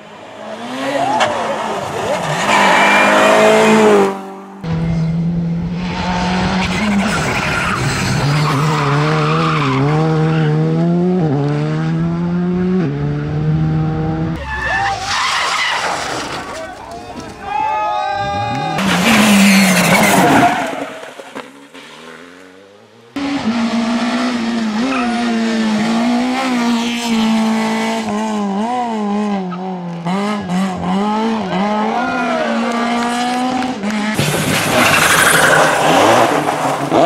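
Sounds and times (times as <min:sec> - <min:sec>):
rally car engines revving high: 0:00.0 - 0:14.4, 0:18.2 - 0:37.0.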